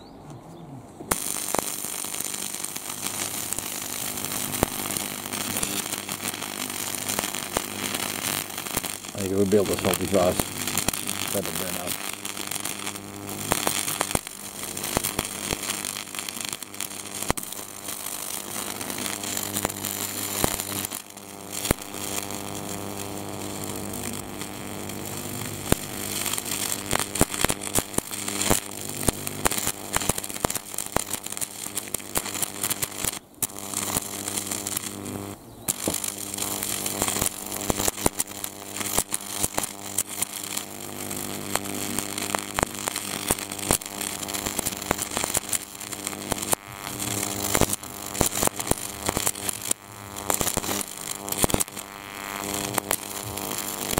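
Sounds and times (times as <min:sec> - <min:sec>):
electrical hum: 0:00.0 - 0:53.9
sparks crackling and snapping: 0:01.1 - 0:53.9.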